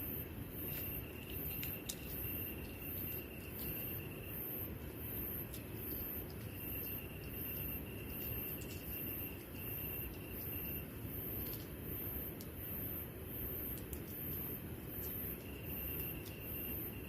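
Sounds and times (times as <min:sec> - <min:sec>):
faint insect trill: 0:00.0 - 0:17.0
insects chirping: 0:00.0 - 0:17.0.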